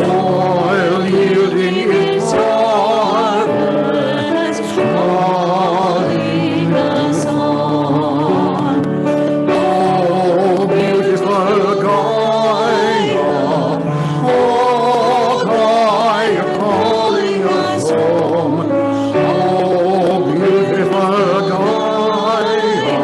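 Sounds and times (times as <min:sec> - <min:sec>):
sustained instrumental accompaniment: 0:00.0 - 0:23.0
voices singing a hymn: 0:00.0 - 0:23.0.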